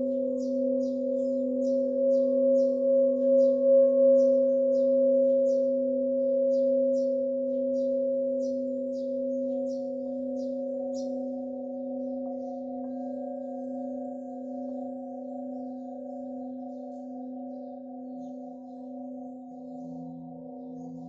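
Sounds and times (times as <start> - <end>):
singing bowls ringing: 0.0 - 21.0
small birds chirping: 0.0 - 21.0.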